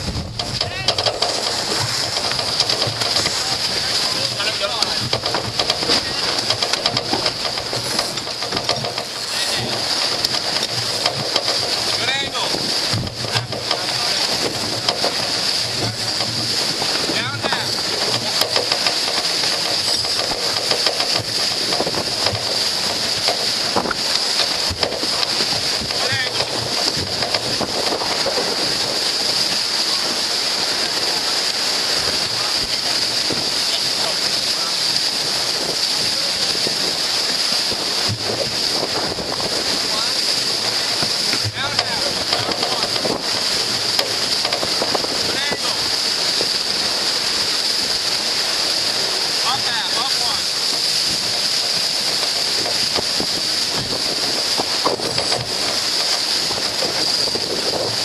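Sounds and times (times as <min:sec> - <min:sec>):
rushing water: 0:00.0 - 0:58.0
short splashes: 0:00.0 - 0:58.0
wind: 0:00.0 - 0:58.0.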